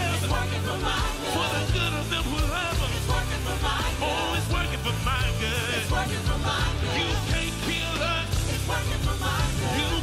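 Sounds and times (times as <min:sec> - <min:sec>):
live worship band music: 0:00.0 - 0:10.0.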